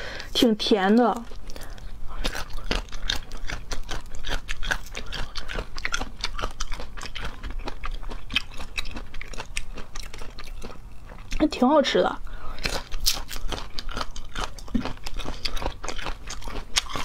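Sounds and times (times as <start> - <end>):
crisp fruit chewing: 0.1 - 11.6, 12.4 - 17.0.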